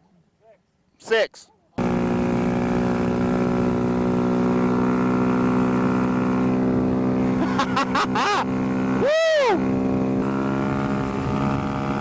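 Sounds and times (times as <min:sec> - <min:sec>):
engine revving: 0:01.8 - 0:12.0
motorcycle engine running: 0:01.8 - 0:12.0.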